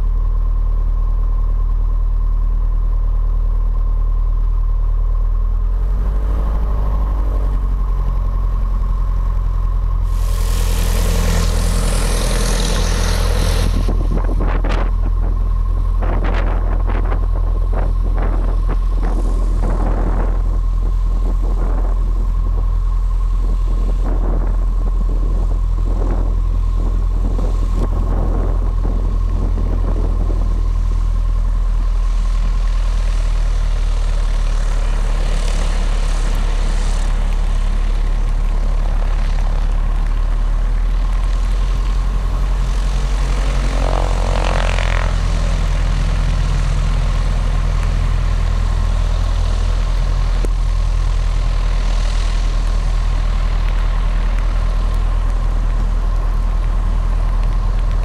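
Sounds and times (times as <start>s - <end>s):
aircraft engine and propeller: 0.0s - 58.0s
thin whine: 5.6s - 58.0s.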